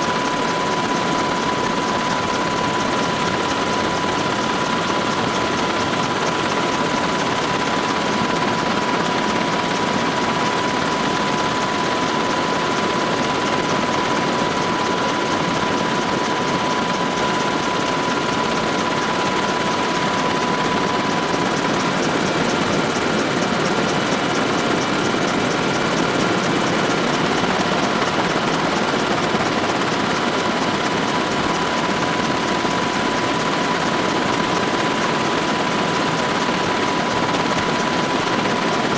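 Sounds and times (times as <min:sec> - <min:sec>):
constant whine: 0:00.0 - 0:38.9
helicopter rotor and engine noise: 0:00.0 - 0:38.9.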